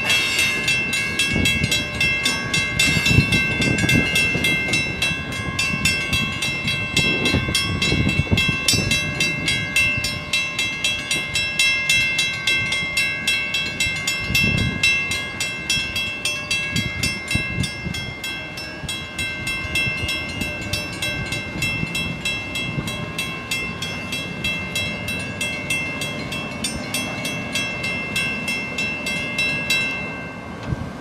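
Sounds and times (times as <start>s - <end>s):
level crossing bells ringing: 0.0s - 30.7s.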